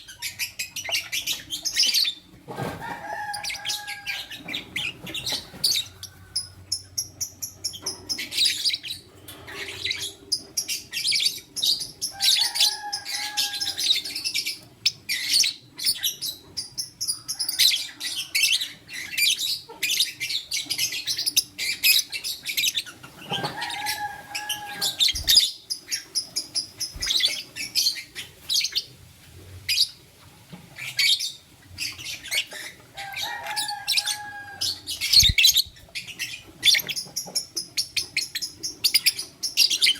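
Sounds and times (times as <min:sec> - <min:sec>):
lovebirds chirping: 0:00.0 - 0:29.0, 0:30.8 - 0:39.9.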